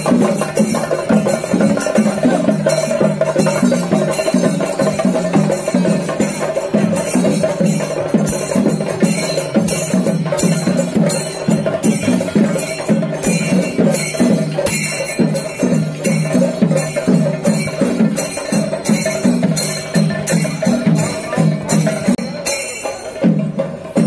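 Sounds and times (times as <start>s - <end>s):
drums playing: 0.0s - 24.0s.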